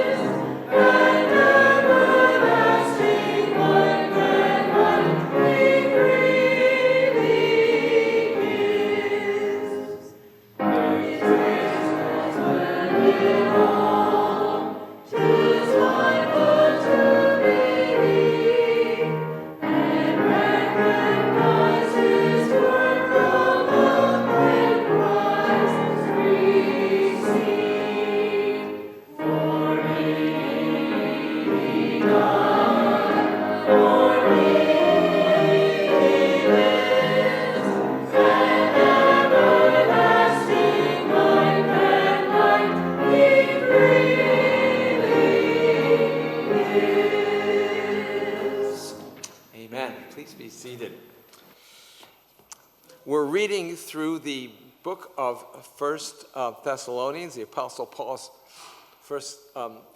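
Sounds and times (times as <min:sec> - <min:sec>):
congregation singing a hymn: 0:00.0 - 0:49.2.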